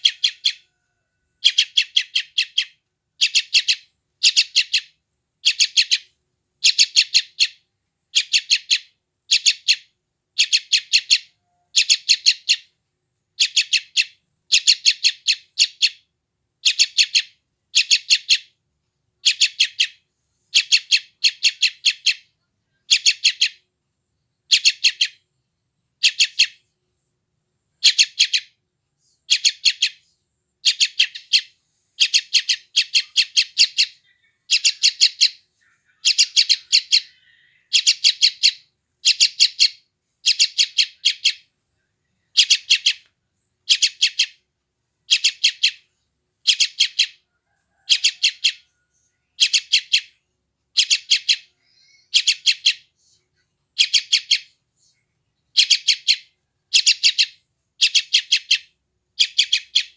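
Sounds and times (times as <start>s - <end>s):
bulbul chick chirping: 0.0s - 12.7s, 19.2s - 23.7s, 24.4s - 25.2s, 26.0s - 26.6s, 27.8s - 41.5s, 42.2s - 54.6s, 55.5s - 59.9s.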